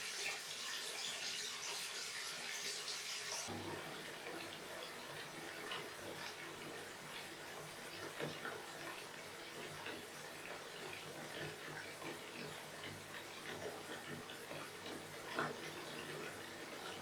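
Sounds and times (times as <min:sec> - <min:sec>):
water splashes and drips: 0:00.0 - 0:17.0.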